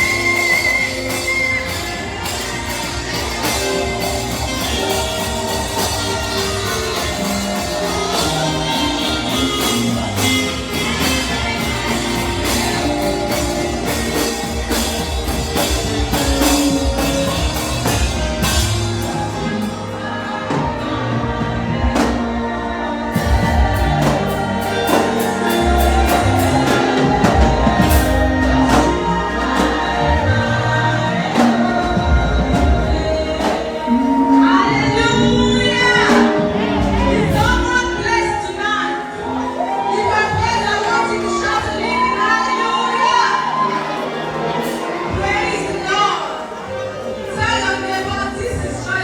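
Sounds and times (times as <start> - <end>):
gospel singing with band: 0.0 - 49.0.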